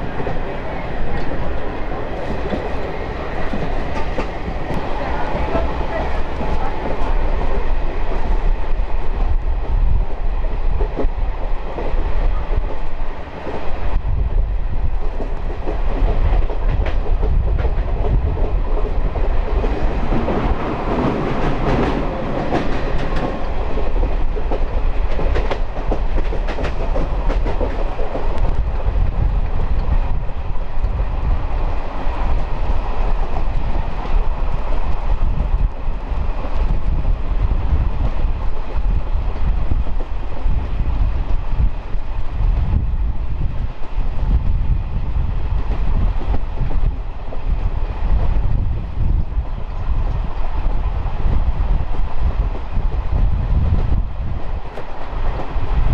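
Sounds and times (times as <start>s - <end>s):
rail clicks: 0.0s - 14.1s, 14.8s - 55.9s
train wheels rumbling on rails: 0.0s - 55.9s.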